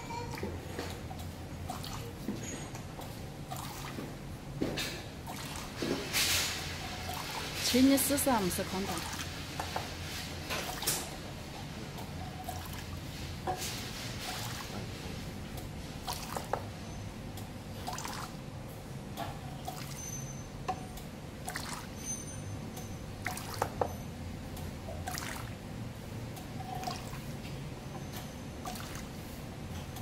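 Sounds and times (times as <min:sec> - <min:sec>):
low pump hum: 0:00.0 - 0:30.0.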